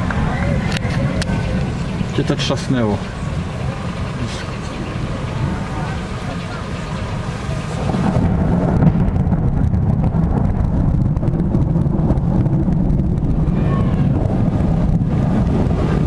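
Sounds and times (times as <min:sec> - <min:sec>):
deep rumble of thunder: 0:00.0 - 0:16.0.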